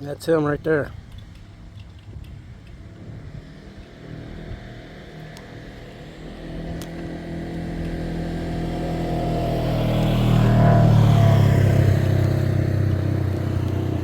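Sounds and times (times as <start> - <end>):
vehicle engine approaching: 1.4 - 14.0.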